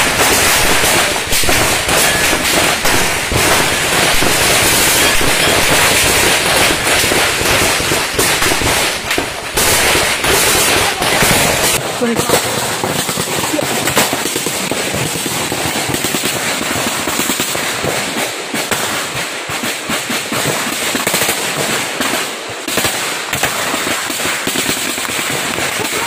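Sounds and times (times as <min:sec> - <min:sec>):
rapid gunfire: 0:00.0 - 0:26.0.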